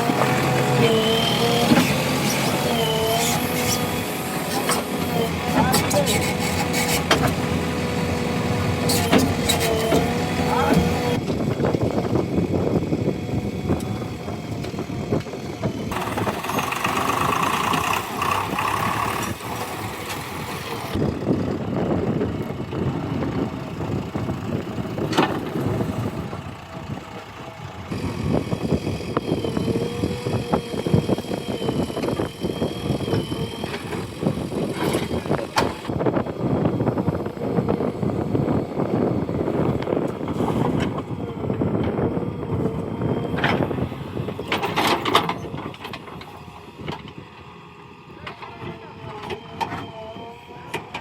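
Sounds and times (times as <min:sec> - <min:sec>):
backhoe diesel engine digging: 0:00.0 - 0:51.0.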